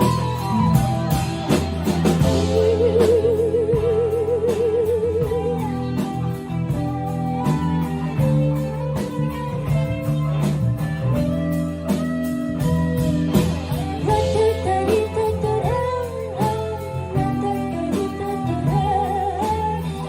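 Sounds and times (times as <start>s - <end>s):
bass guitar: 0.0s - 20.0s
electric guitar melody: 0.0s - 20.0s
steady drum beat: 0.0s - 20.0s.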